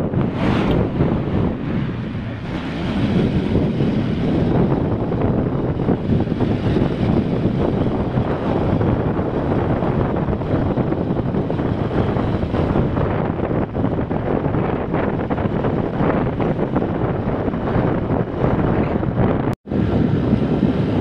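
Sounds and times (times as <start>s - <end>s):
road noise: 0.0s - 20.8s
wind buffeting microphone: 0.0s - 21.0s.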